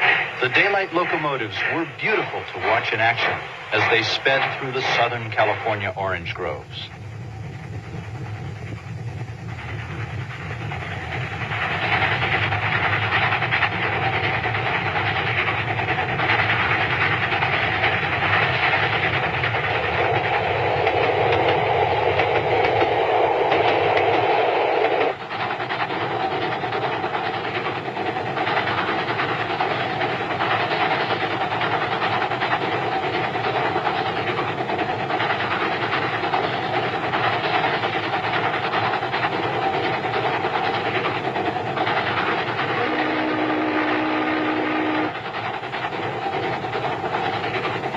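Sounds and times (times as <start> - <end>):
steam train rushing and rattling: 0.0 - 47.9.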